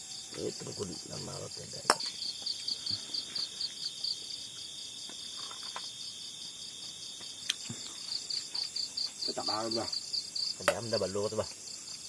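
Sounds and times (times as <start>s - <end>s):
crickets trilling: 0.0s - 12.0s
pulsing insect chirp: 0.0s - 12.0s.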